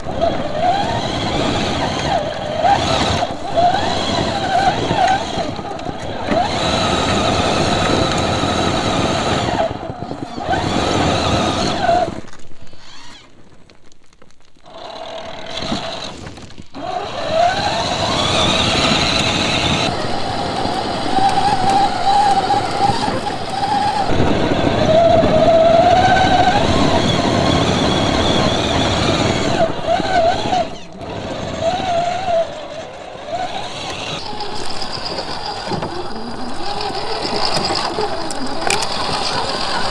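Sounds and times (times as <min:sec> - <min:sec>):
electric motor and gears whining: 0:00.0 - 0:39.9
tyres scrabbling in loose dirt: 0:00.0 - 0:39.9.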